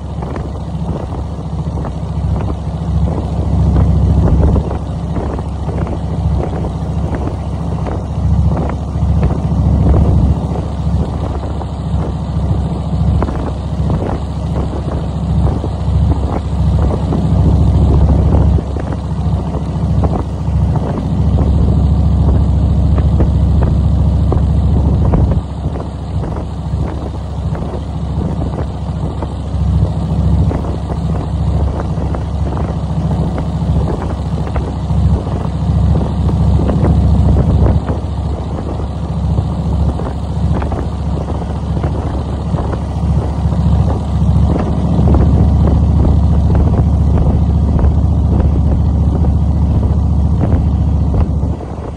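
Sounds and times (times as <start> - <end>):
vehicle running on road: 0.0 - 51.9
wind buffeting microphone: 0.0 - 51.9.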